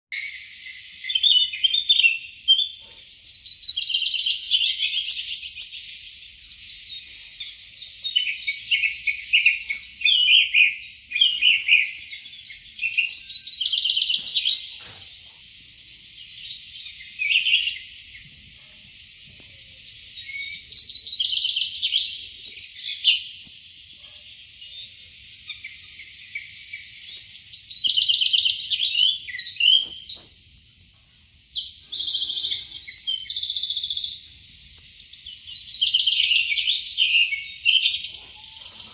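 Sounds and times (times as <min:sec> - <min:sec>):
small birds chirping and trilling: 0:00.1 - 0:38.9.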